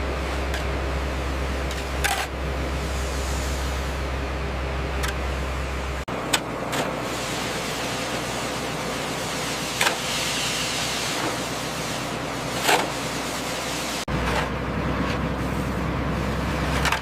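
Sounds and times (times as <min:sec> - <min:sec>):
heavy machinery engine noise: 0:00.0 - 0:17.0.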